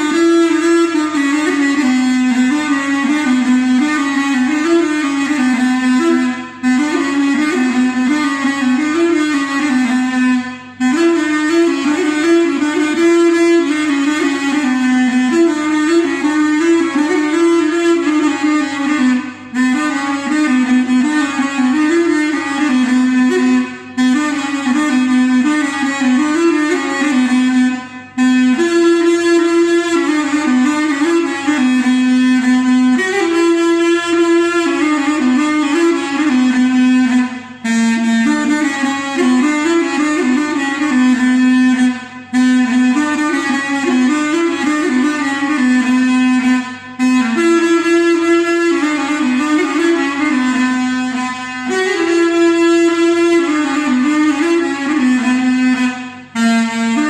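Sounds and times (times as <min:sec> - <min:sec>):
reed wind instrument melody: 0:00.0 - 0:57.0.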